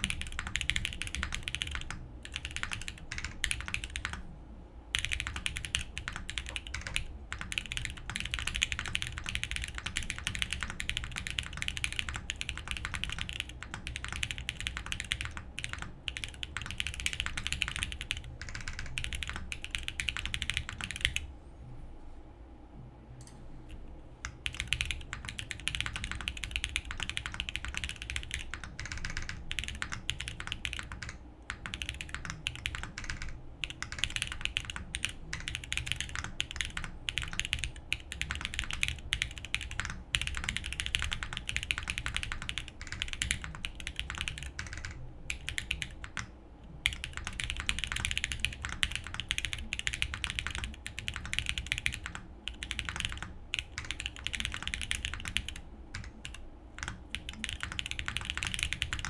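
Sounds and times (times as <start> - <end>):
fast typing on mechanical keyboard: 0.0 - 4.2, 4.9 - 21.3, 24.2 - 59.0.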